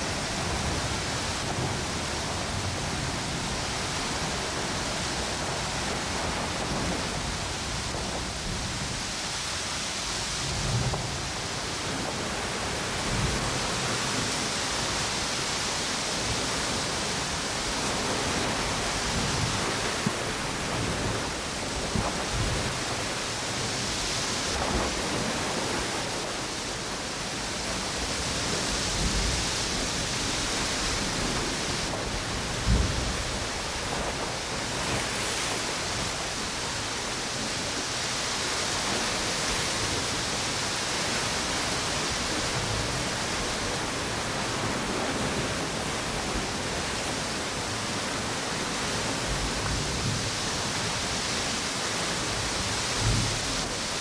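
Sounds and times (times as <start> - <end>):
strong wind gusts: 0.0 - 54.0
waves washing on beach: 0.0 - 54.0.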